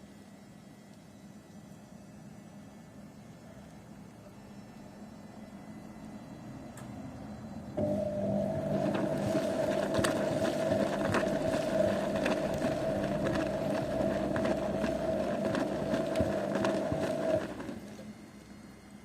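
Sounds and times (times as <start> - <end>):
washing machine running: 2.1 - 19.0.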